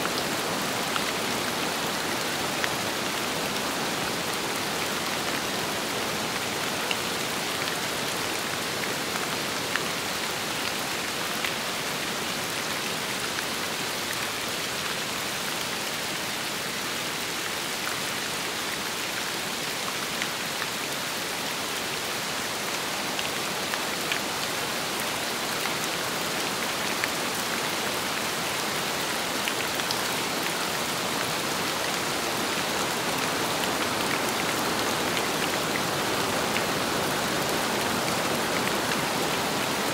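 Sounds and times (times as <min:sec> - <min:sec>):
steady rain falling: 0:00.0 - 0:39.9
wind: 0:00.0 - 0:39.9.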